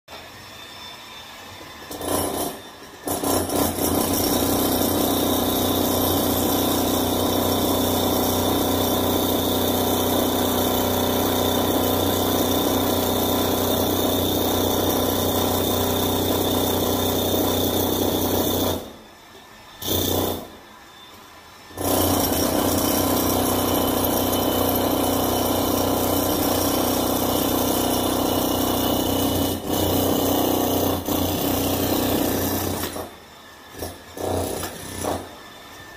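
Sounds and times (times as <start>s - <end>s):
jackhammer breaking concrete: 1.9s - 19.0s, 19.8s - 20.5s, 21.8s - 35.4s.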